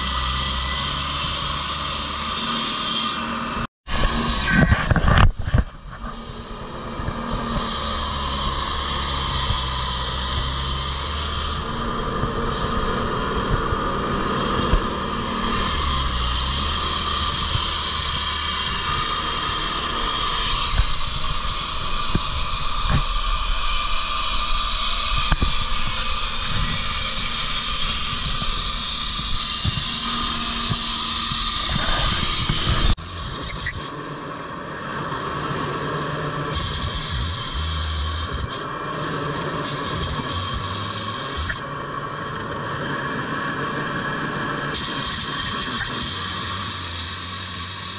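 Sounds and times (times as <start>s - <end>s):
road saw cutting asphalt: 0.0s - 47.9s.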